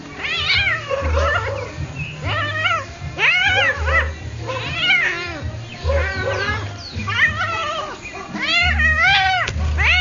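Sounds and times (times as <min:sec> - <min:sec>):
cat meowing: 0:00.2 - 0:10.0.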